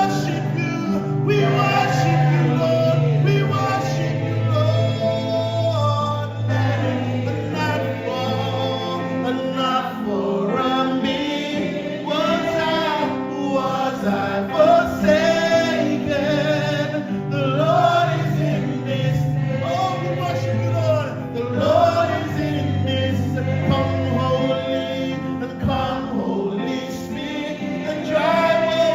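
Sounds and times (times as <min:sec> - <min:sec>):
group of voices singing gospel: 0:00.0 - 0:28.9
instrumental accompaniment with bass: 0:00.0 - 0:28.9.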